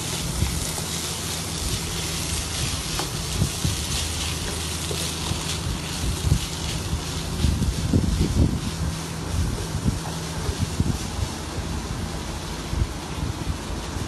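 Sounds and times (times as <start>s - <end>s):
rice and vegetables sizzling: 0.0s - 14.0s.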